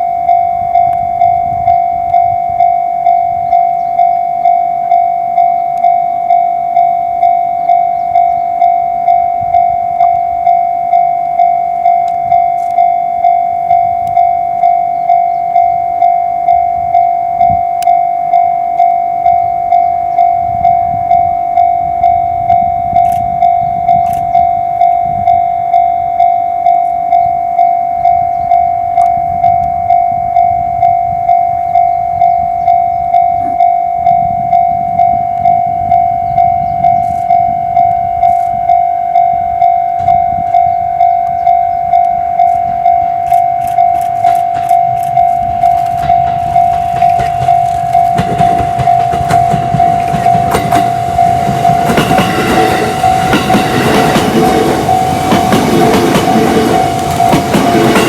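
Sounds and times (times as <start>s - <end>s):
level-crossing alarm ringing: 0.0s - 58.0s
train rumbling: 0.0s - 58.0s.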